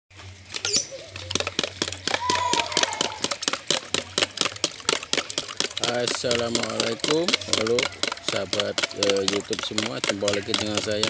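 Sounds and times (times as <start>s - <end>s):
hot oil popping and crackling: 0.1s - 11.0s.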